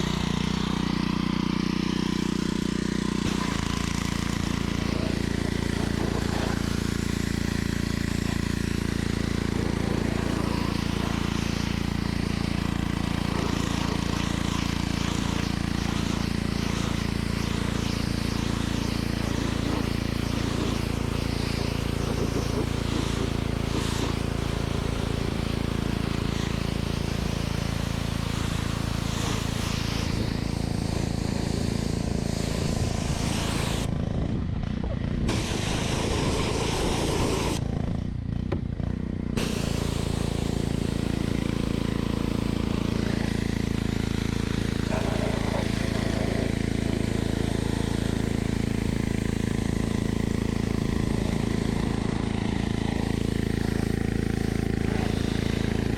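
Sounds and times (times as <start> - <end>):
water spray hissing: 0.0 - 33.9, 35.3 - 37.6, 39.4 - 55.9
pressure washer motor humming: 0.0 - 55.9.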